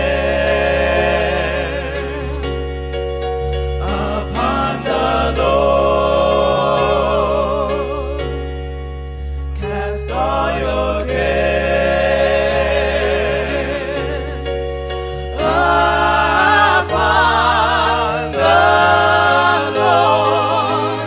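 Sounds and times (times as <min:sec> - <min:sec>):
voices singing with vibrato: 0:00.0 - 0:03.0, 0:03.8 - 0:08.4, 0:09.6 - 0:21.0
electronic keyboard chords: 0:00.0 - 0:21.0.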